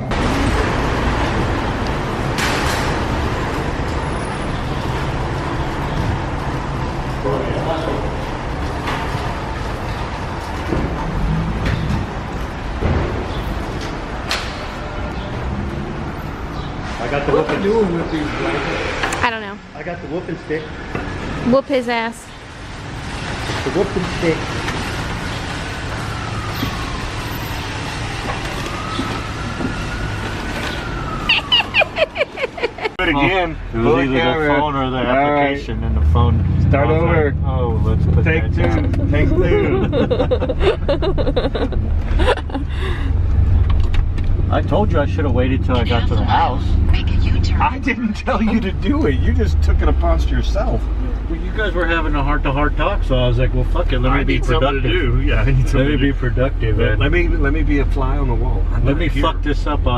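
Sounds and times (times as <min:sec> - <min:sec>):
car road noise: 0:00.0 - 0:59.9.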